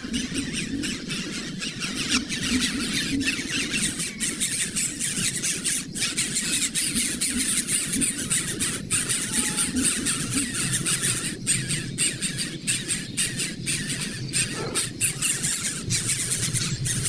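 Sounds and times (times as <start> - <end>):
birds chirping and squawking: 0.0 - 17.0.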